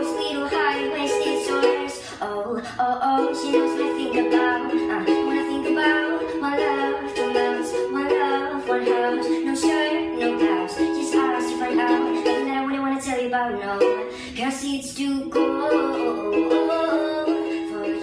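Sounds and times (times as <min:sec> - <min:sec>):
strummed string instrument music: 0:00.0 - 0:18.0.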